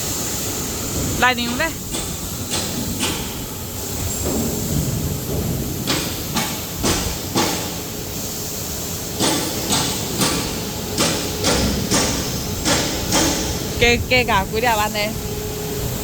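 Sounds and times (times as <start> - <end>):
cutting machine hiss: 0.0 - 13.9.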